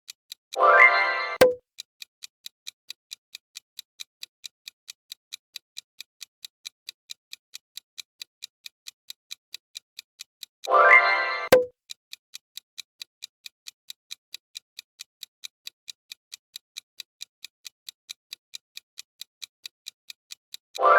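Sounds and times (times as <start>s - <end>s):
clock-like ticking: 0.3s - 20.9s.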